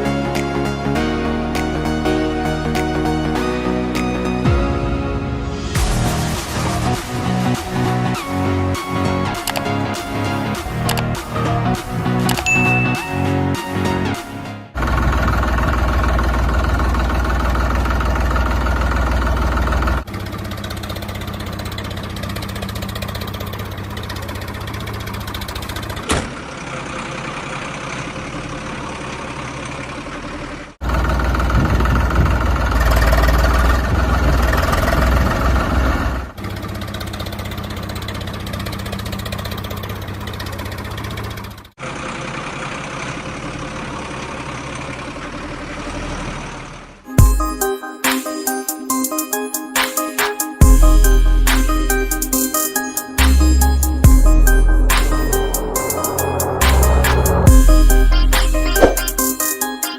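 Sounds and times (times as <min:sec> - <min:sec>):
diesel engines idling: 0:05.8 - 0:47.6, 0:50.6 - 0:59.9.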